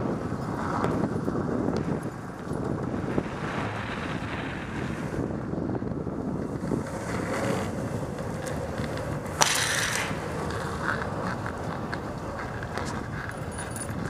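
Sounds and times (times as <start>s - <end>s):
longboard wheels rolling on pavement: 0.0s - 14.0s
wind buffeting microphone: 0.0s - 14.0s.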